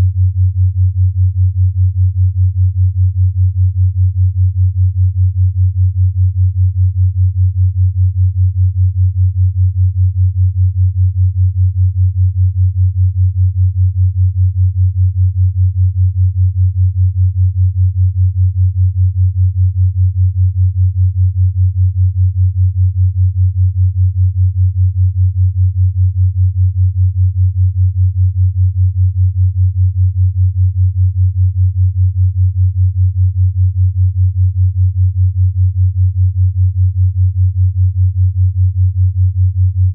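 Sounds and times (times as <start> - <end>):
pulsing low pure tone: 0.0 - 39.9.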